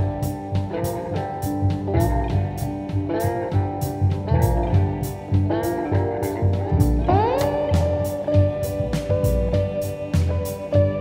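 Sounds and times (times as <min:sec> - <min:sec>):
guitar music with drums and bass: 0:00.0 - 0:11.0.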